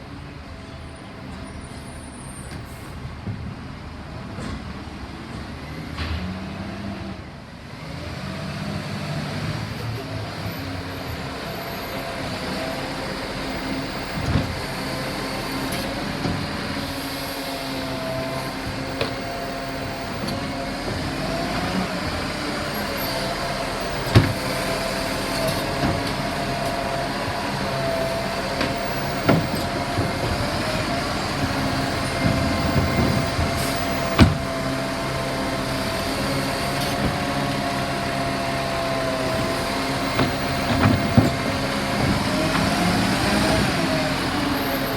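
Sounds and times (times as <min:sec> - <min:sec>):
garbage truck whining: 0:00.0 - 0:44.9.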